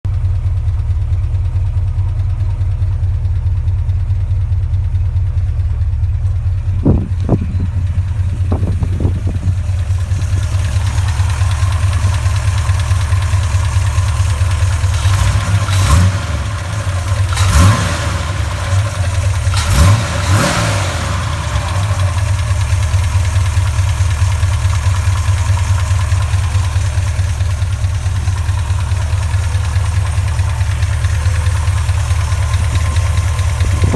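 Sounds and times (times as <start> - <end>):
engine idling with ticking: 0.0 - 33.9
engine throttle blips: 0.1 - 33.9.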